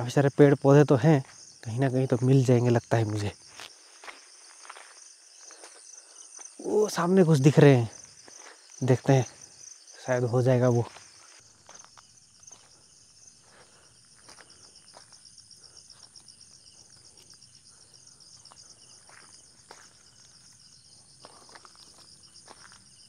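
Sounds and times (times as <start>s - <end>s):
forest insects chirping: 0.0s - 23.0s.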